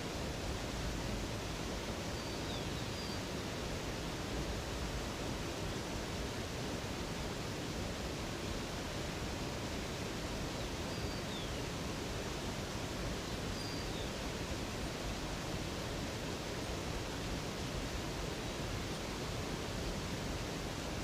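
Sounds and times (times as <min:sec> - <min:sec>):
flowing water rushing: 0:00.0 - 0:21.0.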